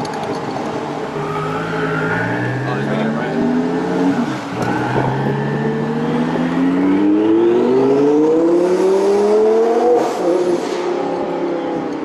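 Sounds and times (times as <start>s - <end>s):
car engine accelerating hard: 1.1s - 11.8s.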